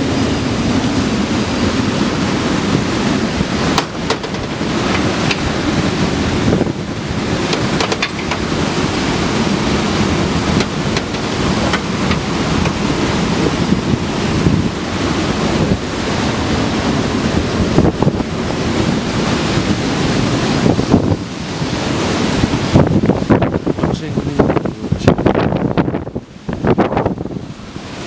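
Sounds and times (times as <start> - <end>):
strong wind gusting on microphone: 0.0 - 28.0.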